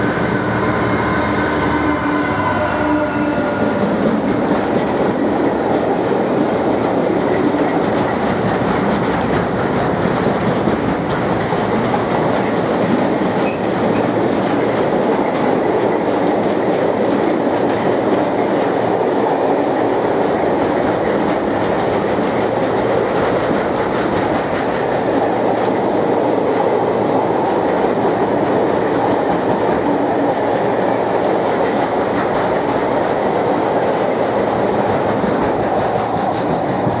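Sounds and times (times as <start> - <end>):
freight train rumbling past: 0.0 - 37.0
train wheel clicks: 3.3 - 37.0.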